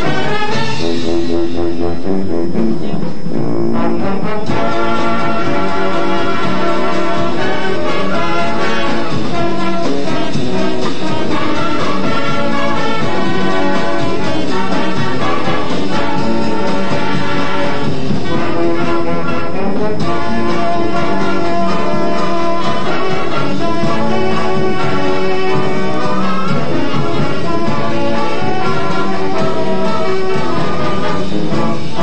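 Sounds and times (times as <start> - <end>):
marching band playing brass: 0.0 - 32.0.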